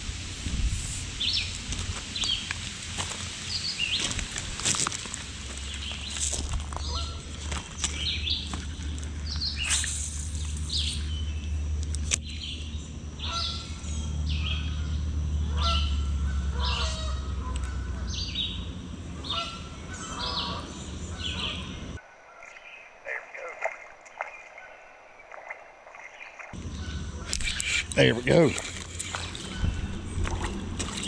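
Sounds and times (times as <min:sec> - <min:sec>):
steady low rumble: 0:00.0 - 0:22.1, 0:22.9 - 0:31.0
songbirds chirping: 0:01.1 - 0:31.0.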